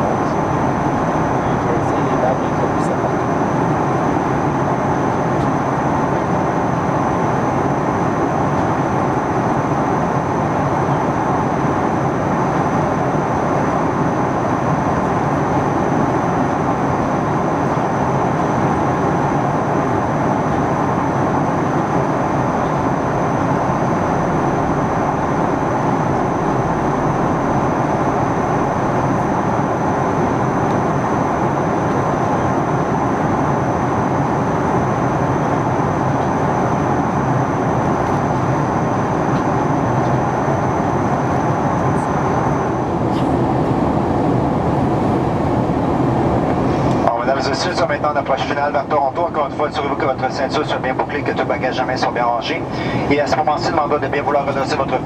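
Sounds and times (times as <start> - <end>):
jet engine and airflow rush: 0.0 - 55.0
thin high whine: 0.0 - 55.0.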